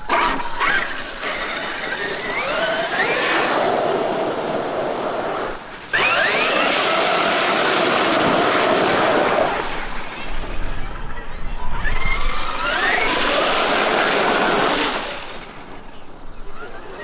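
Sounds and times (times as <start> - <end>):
electric motor whining: 0.0 - 10.0, 11.7 - 15.8.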